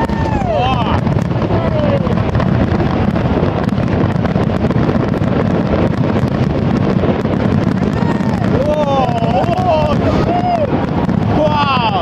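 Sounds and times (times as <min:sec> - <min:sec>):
fireworks bursting: 0:00.0 - 0:12.0
fireworks crackling: 0:00.0 - 0:12.0.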